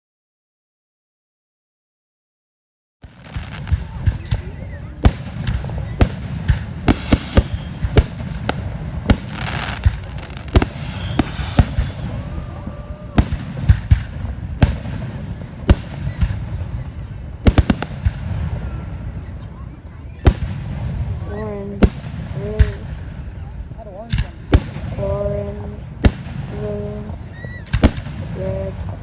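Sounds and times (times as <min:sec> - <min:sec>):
fireworks bangs: 0:03.0 - 0:29.0
fireworks crackling: 0:03.0 - 0:29.0.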